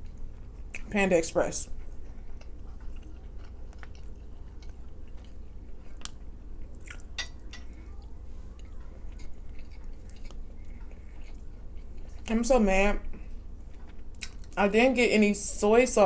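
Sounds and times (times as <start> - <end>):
person chewing food: 0.0 - 0.9, 1.7 - 12.3, 13.1 - 14.6
steady low hum: 0.0 - 16.0.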